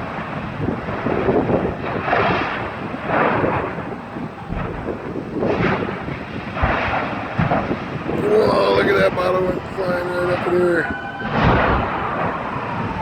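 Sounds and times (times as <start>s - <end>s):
large fire roaring: 0.0s - 13.0s.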